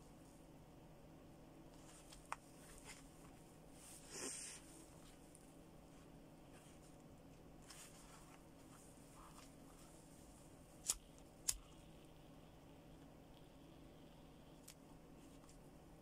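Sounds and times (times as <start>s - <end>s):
faint low room hum: 0.0s - 16.0s.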